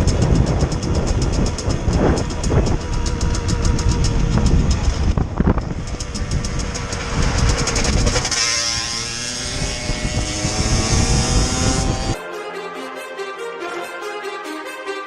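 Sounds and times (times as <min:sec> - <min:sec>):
motorcycle engine rumbling: 0:00.0 - 0:12.2.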